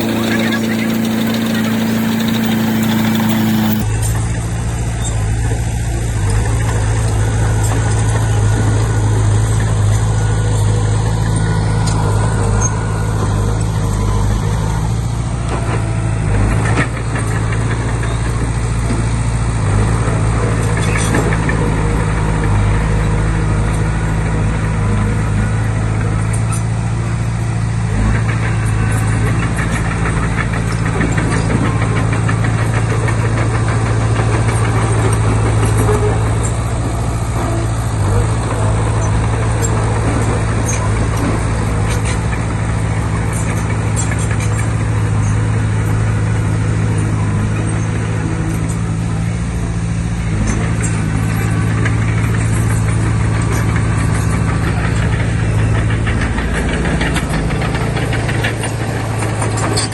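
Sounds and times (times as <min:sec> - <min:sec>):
bulldozer diesel engine running: 0:00.0 - 0:03.9, 0:07.2 - 0:59.9.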